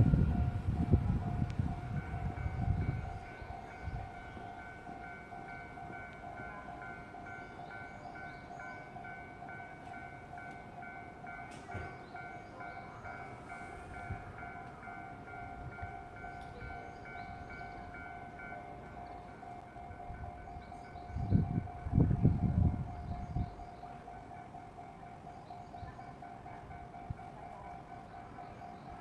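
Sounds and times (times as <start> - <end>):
train passing rumble: 0.0 - 29.0.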